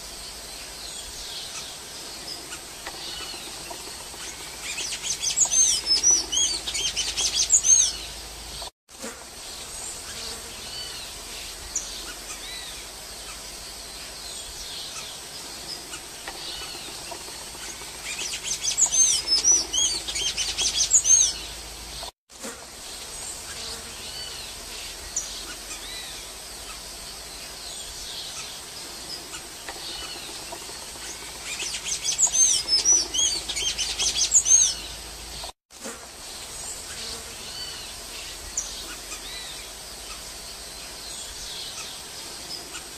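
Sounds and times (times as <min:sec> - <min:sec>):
faint background hiss: 0:00.0 - 0:42.9.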